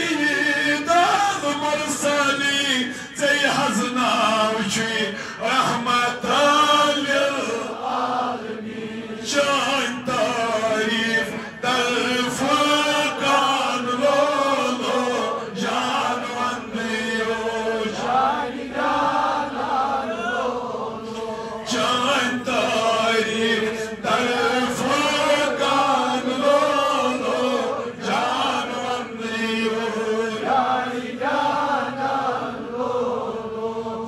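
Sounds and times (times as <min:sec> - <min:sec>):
man chanting a devotional hymn: 0:00.0 - 0:34.0.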